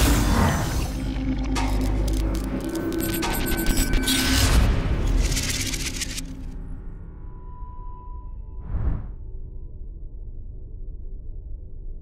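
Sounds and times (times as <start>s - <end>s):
music with low pulse: 0.0s - 12.0s.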